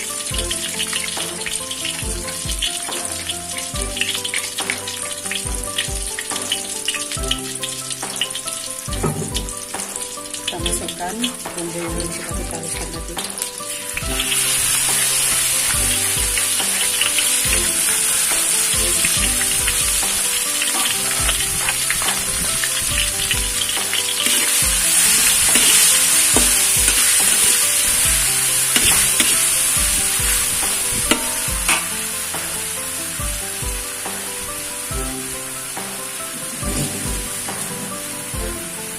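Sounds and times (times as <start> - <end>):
paste sizzling in hot oil: 0.0 - 38.9.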